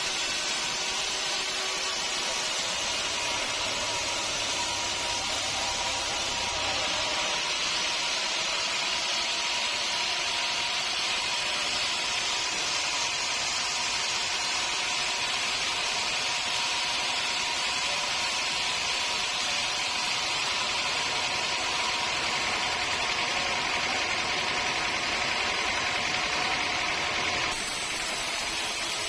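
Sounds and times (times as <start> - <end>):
sawmill machinery hissing: 0.0 - 29.0.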